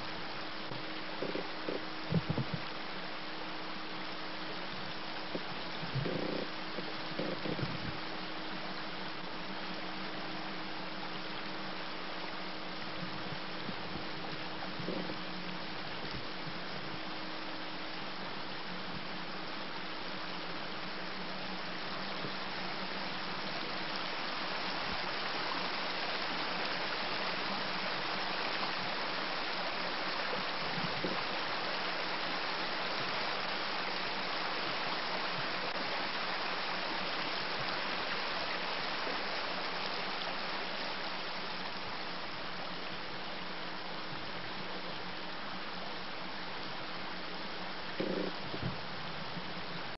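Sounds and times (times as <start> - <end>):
creek water rippling over stones: 0.0 - 49.9.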